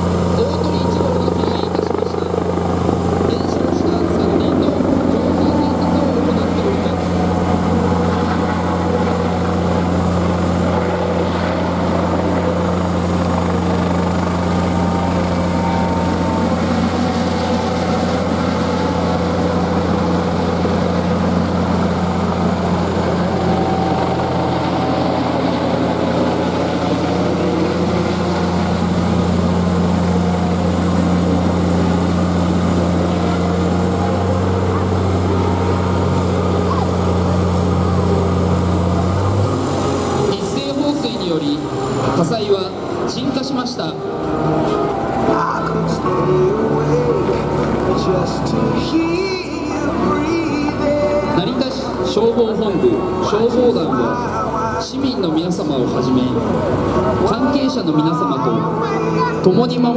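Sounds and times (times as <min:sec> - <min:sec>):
helicopter flying: 0:00.0 - 0:59.9.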